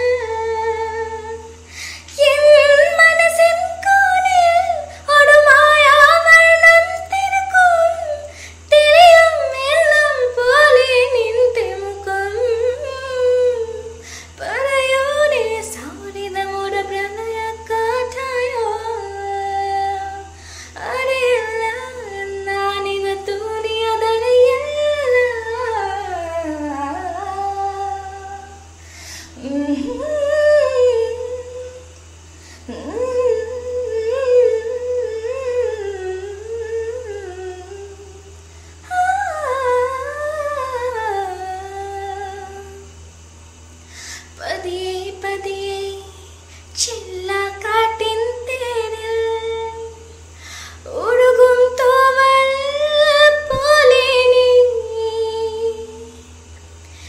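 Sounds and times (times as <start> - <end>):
woman singing unaccompanied: 0.0 - 31.9, 32.6 - 42.9, 44.0 - 56.4.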